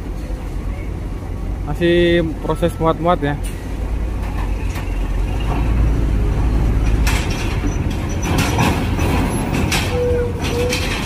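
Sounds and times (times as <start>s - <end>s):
large vehicle engines rumbling: 0.0s - 11.0s.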